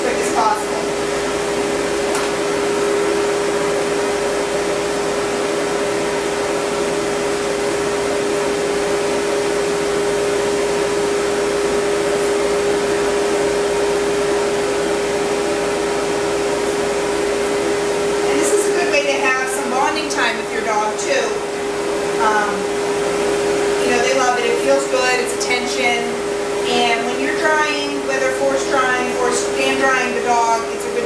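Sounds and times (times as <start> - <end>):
grooming dryer blowing air: 0.0 - 31.0.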